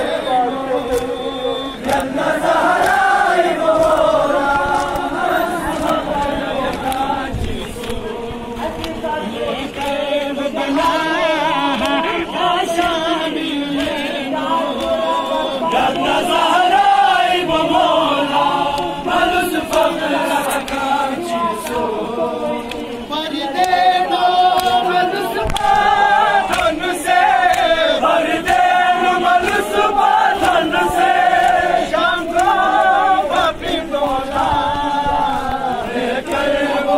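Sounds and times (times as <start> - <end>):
crowd of men chanting: 0.0 - 36.9
hands slapping on chests: 0.4 - 17.0, 17.6 - 36.9.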